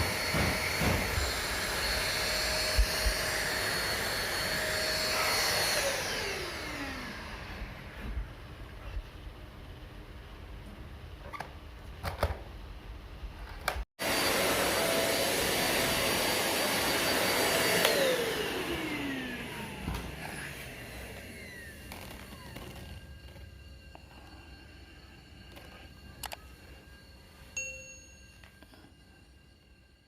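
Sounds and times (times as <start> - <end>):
vacuum cleaner whining: 0.0 - 9.2, 14.0 - 30.0.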